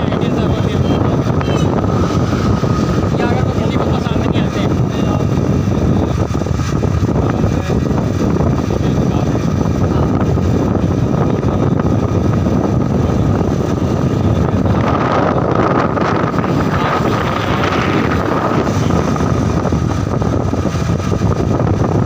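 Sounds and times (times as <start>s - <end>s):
higher hum: 0.0s - 22.0s
motorcycle engine running: 0.0s - 22.0s
wind rushing over microphone: 0.0s - 22.0s.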